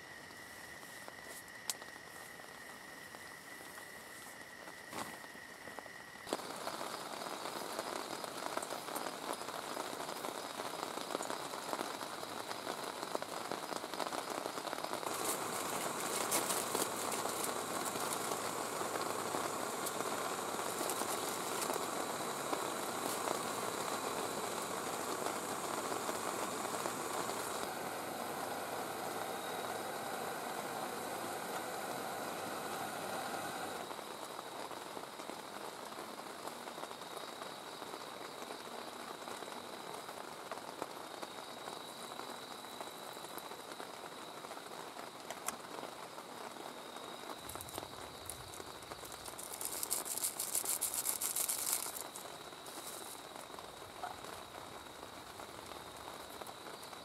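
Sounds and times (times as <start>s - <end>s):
heavy rain on tent: 0.0s - 57.0s.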